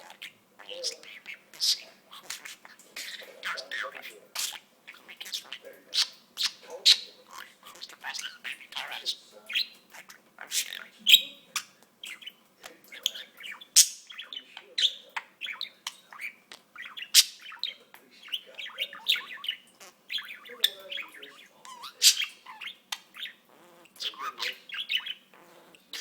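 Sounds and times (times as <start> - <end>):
budgerigar squawks: 0.0 - 12.4, 13.0 - 26.0
budgerigar chattering: 0.0 - 26.0.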